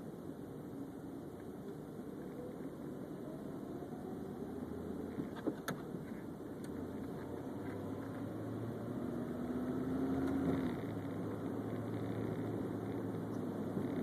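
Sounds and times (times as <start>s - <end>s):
car engine and road noise: 0.0s - 14.0s
steady hum: 0.0s - 14.0s.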